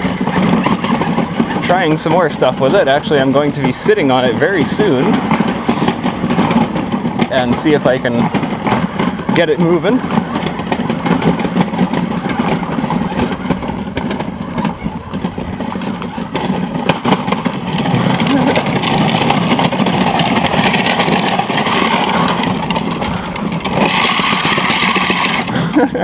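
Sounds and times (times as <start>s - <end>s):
electric motor whining and rattling: 0.0s - 26.0s
plastic wheels rolling on pavement: 0.0s - 26.0s.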